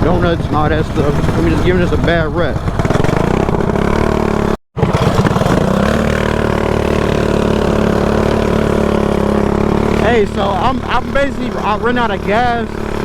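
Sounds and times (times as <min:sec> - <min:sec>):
small motorbike engine running: 0:00.0 - 0:13.0.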